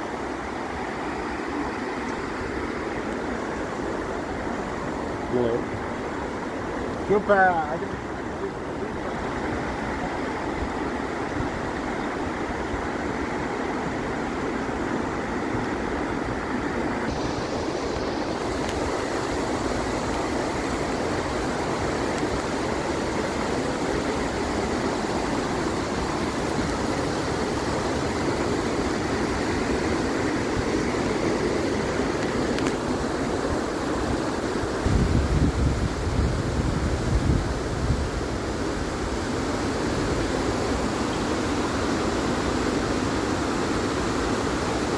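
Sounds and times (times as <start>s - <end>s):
waterfall rushing: 0.0s - 44.9s
wind buffeting microphone: 8.0s - 44.9s.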